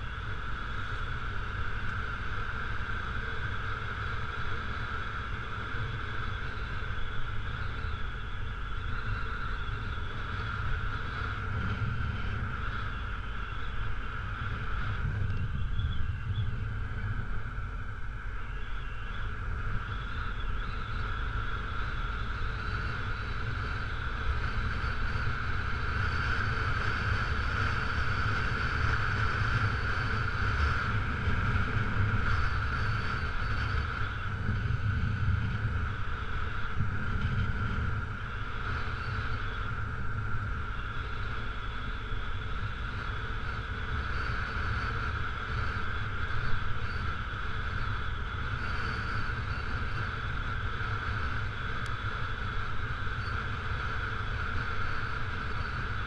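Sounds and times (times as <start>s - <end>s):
low wind rumble: 0.0s - 56.0s.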